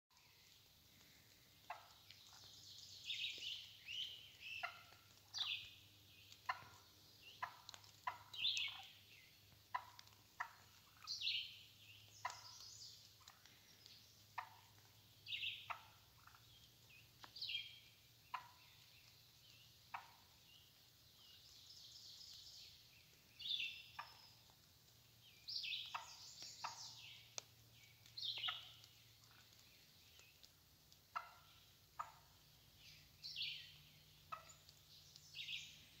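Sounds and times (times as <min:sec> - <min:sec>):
wild turkey calling: 0:00.2 - 0:36.0.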